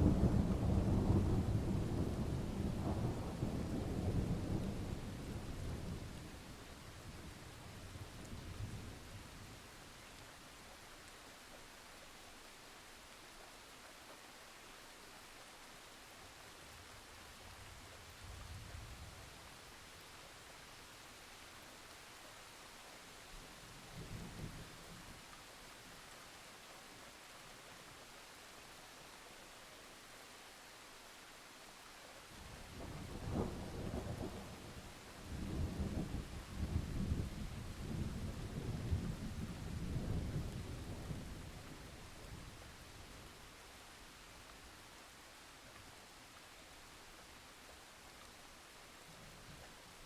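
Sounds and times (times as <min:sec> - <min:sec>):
rain hiss: 0:00.0 - 0:50.0.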